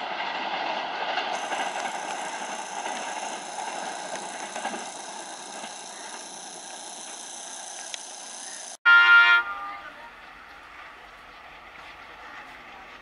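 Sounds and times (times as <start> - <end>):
passenger train running: 0.0 - 13.0.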